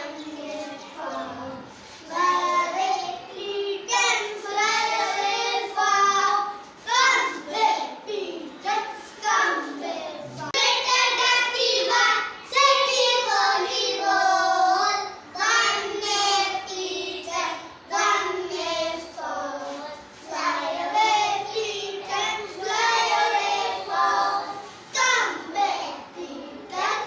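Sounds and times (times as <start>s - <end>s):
young children singing: 0.0s - 27.0s.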